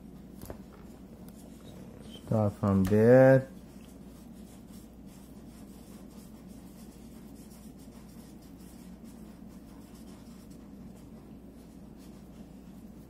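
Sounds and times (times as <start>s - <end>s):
low room hum: 0.0s - 13.0s
markers scratching on paper: 0.8s - 13.0s.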